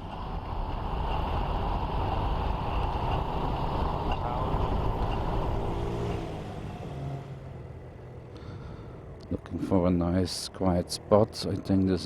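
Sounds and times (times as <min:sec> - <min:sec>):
motorbike engine and road rumble: 0:00.0 - 0:12.0.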